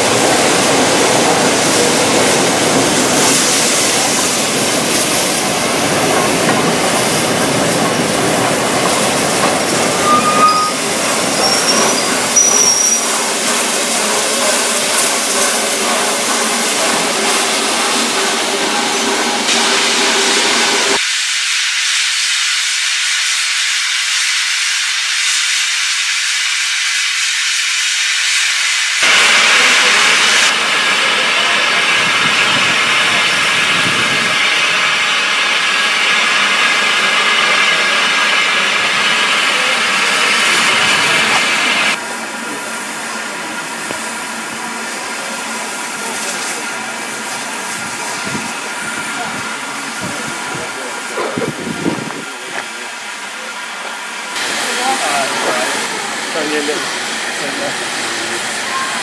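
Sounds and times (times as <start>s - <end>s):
steam locomotive hissing steam: 0.0s - 59.0s.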